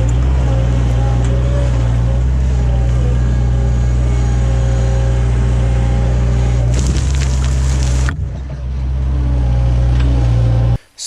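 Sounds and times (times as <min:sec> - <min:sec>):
engine droning: 0:00.0 - 0:10.8.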